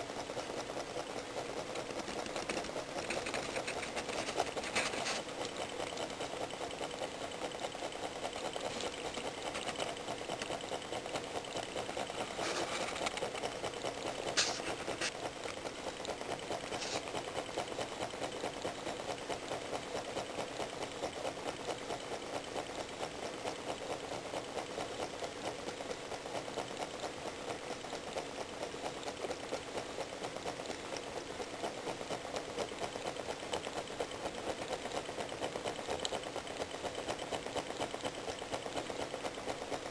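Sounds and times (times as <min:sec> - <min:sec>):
small engine mechanical clatter: 0:00.0 - 0:39.9
sharp ticks: 0:00.4 - 0:39.9.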